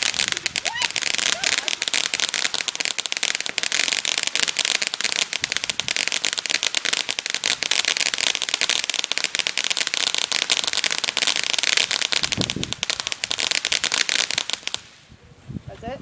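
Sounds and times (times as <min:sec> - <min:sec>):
firework crackling: 0:00.0 - 0:15.1.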